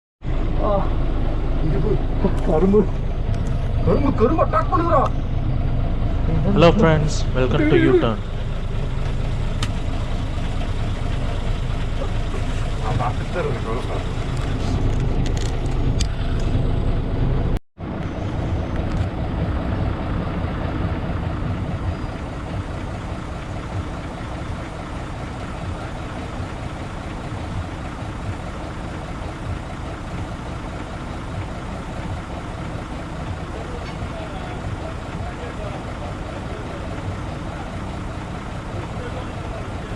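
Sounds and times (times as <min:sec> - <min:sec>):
truck engine rumbling: 0:00.2 - 0:39.9.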